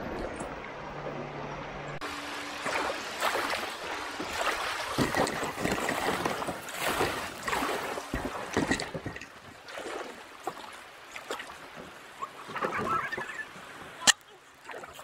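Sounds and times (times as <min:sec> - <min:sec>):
river rushing: 0:01.7 - 0:15.0
water slapping kayak: 0:02.0 - 0:15.0.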